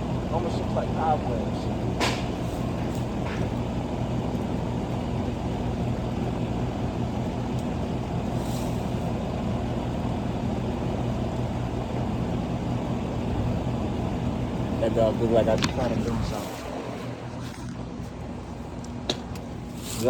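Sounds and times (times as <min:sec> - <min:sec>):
air conditioner unit droning: 0:00.0 - 0:20.0
low electrical hum: 0:00.0 - 0:20.0.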